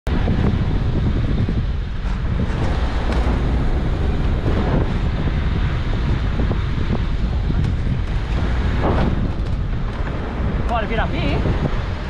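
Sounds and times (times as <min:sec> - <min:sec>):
low engine rumble: 0:00.1 - 0:12.0
wind buffeting microphone: 0:00.1 - 0:12.0.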